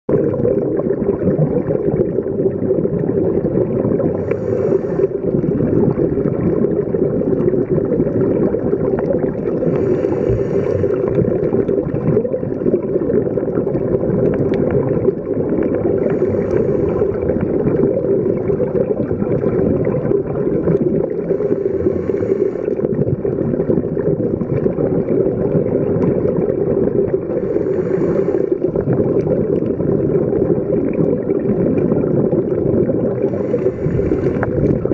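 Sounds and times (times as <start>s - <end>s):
dull underwater rushing: 0.1s - 34.9s
exhaled bubbles hissing: 0.1s - 34.9s.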